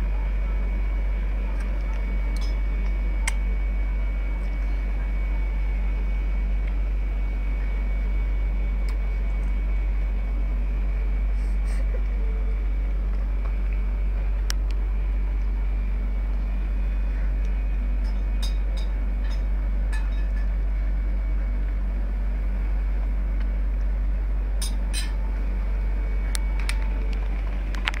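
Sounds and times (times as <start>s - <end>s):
loud low hum: 0.0s - 28.0s.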